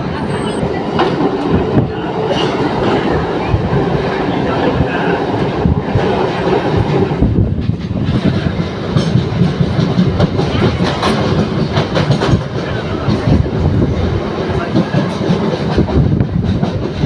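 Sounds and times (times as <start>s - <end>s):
train knocking: 0.0s - 17.0s
train wheels rumbling on rails: 0.0s - 17.0s.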